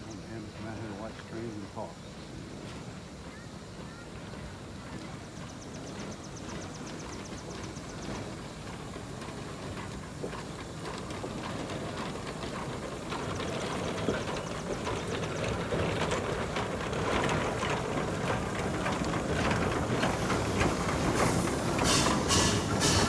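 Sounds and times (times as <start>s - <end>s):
hiss of steam: 0.0s - 16.6s, 17.6s - 23.0s
steam locomotive exhaust chuffs: 0.0s - 23.0s.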